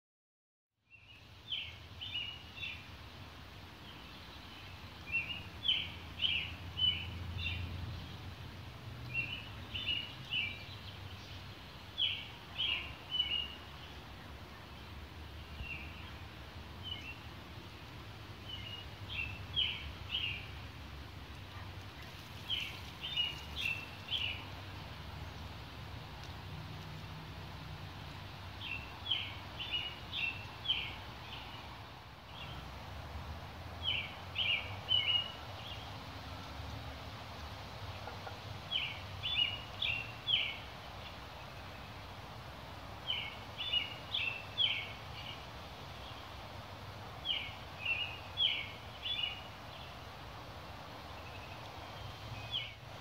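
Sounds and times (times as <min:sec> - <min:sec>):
songbird chirping: 0:00.8 - 0:53.0.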